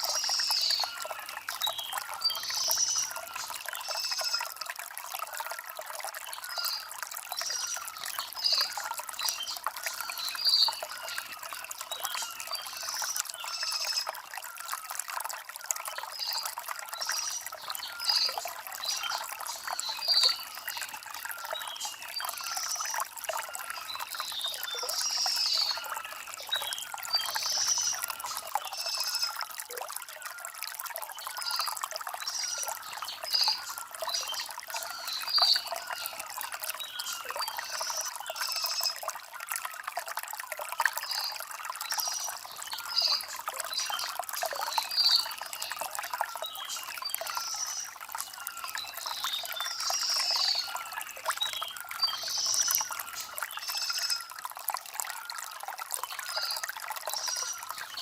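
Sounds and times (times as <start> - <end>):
stream gurgling over stones: 0.0 - 58.0.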